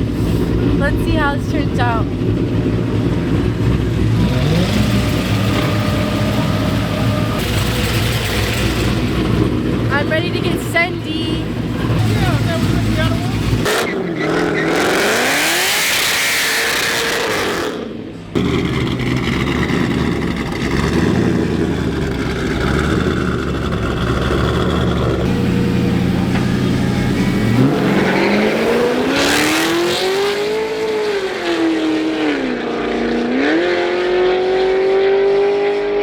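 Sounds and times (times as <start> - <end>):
truck engine at hard throttle: 0.0 - 36.0.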